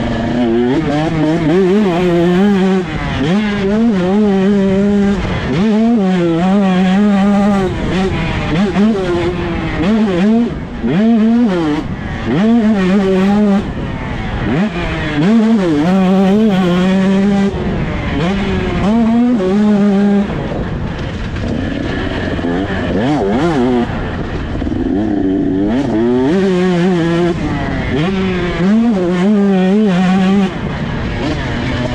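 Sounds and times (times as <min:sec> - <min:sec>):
motocross engine revving: 0:00.0 - 0:31.9.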